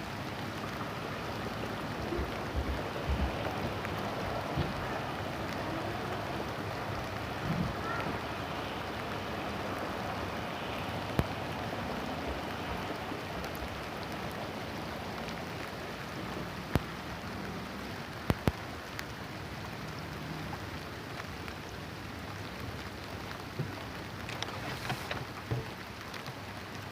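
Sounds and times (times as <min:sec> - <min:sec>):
gentle rain falling: 0:00.0 - 0:26.9
raindrops ticking: 0:00.0 - 0:26.9.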